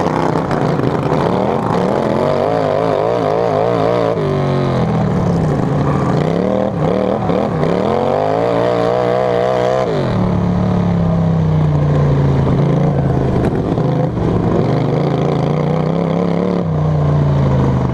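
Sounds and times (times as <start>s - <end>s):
lawn mower engine running hard: 0.0s - 17.9s.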